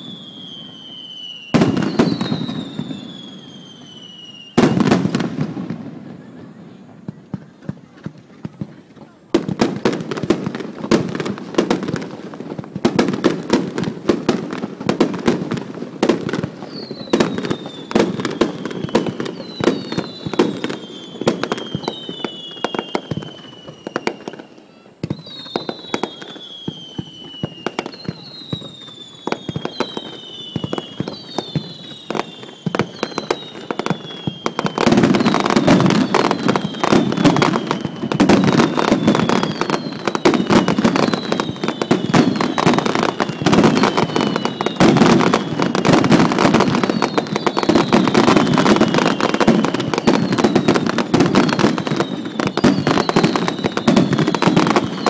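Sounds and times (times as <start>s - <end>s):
falling firework whistles: 0.0s - 55.0s
fireworks bangs and crackling: 0.0s - 55.0s.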